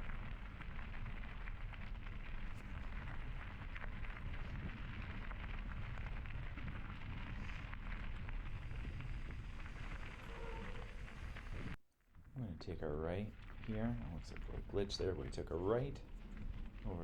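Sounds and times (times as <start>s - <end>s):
bike tyres rolling on dirt: 0.0s - 17.0s
wind rumble on microphone: 0.0s - 17.0s.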